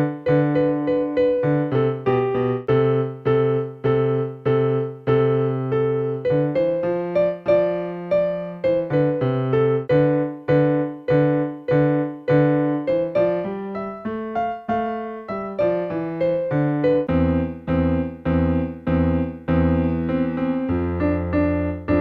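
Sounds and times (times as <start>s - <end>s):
electronic keyboard notes: 0.0s - 22.0s.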